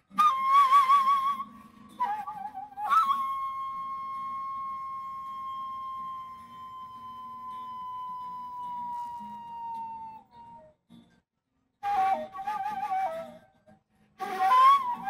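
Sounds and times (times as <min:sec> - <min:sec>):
flute playing: 0:00.0 - 0:10.8, 0:11.8 - 0:13.6, 0:14.2 - 0:15.0.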